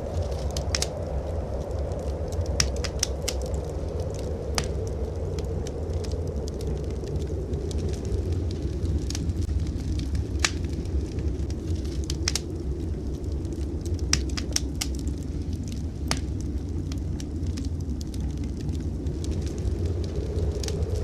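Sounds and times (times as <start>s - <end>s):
low blizzard wind: 0.0s - 21.0s
wood fire crackling: 0.0s - 21.0s.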